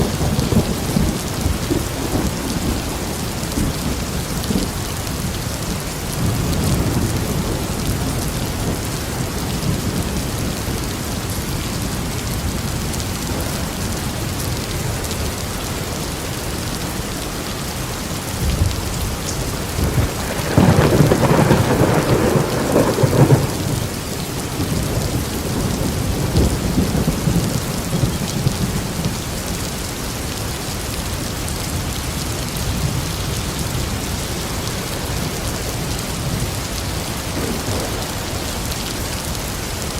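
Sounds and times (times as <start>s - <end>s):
thunder rumbling and cracking: 0.0s - 15.5s, 18.2s - 30.0s, 31.0s - 39.9s
heavy rain: 0.0s - 39.9s.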